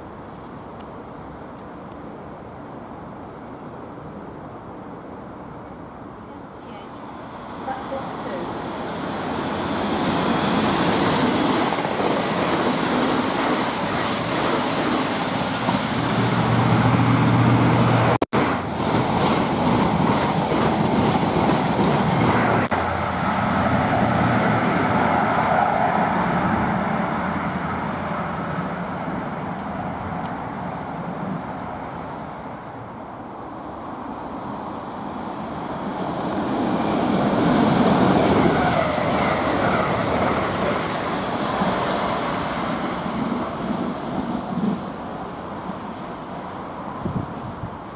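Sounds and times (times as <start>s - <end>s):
train wheels on rail: 7.1s - 47.9s.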